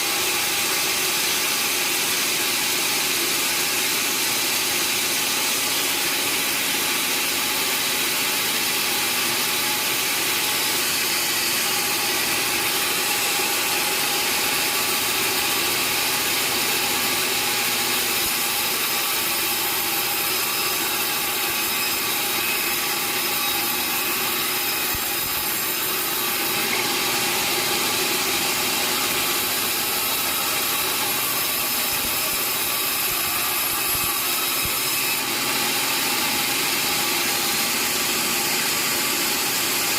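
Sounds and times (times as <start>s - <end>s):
sawmill saw running with whine: 0.0s - 39.9s.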